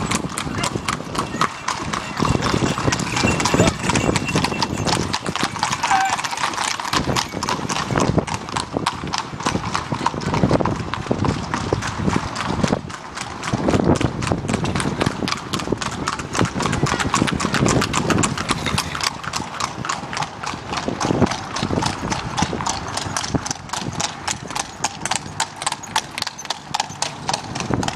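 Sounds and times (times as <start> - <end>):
hooves clip-clopping on asphalt: 0.0 - 27.9.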